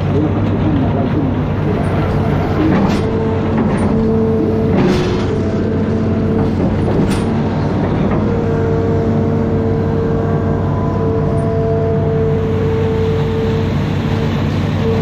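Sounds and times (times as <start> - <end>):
diesel engine running under load: 0.0 - 15.0
engine whine: 0.0 - 15.0.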